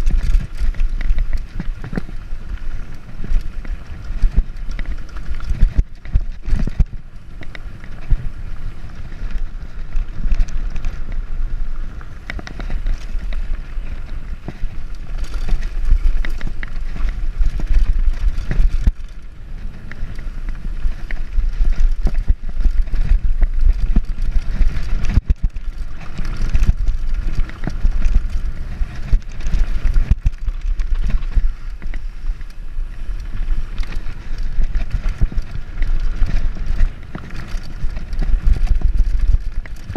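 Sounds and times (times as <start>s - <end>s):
bike rattling: 0.0s - 39.9s
bike tyres rolling on dirt: 0.0s - 39.9s
wind rumble on microphone: 0.0s - 39.9s.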